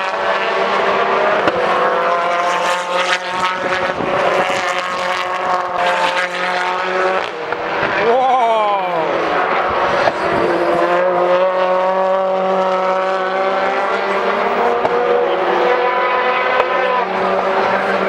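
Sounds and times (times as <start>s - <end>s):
race car engine at high revs: 0.0s - 8.2s, 9.1s - 18.0s.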